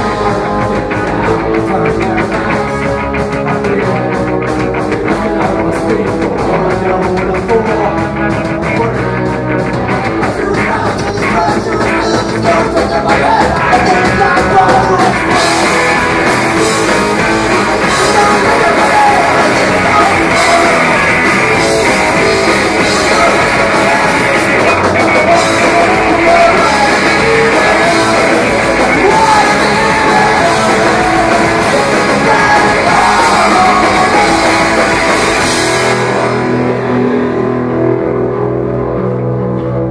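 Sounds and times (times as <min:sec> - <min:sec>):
drum kit: 0:00.0 - 0:38.5
bass guitar: 0:00.0 - 0:39.9
electric guitars: 0:00.0 - 0:39.9
person singing: 0:00.0 - 0:39.9.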